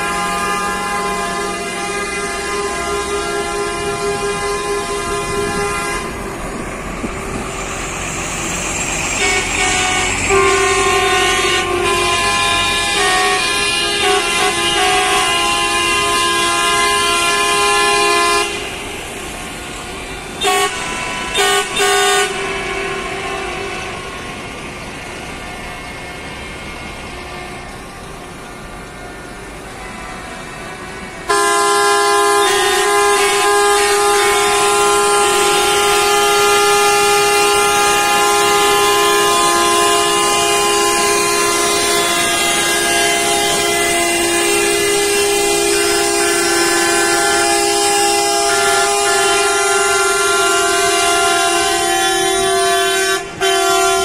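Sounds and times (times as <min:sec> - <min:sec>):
buses passing by: 0:00.0 - 0:54.0
coach horns honking: 0:00.0 - 0:54.0.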